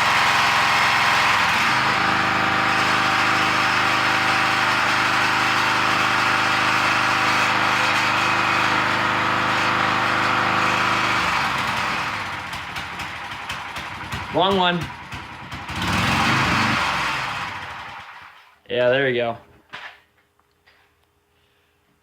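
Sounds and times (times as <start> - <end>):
pressure washer engine running: 0.0 - 18.4.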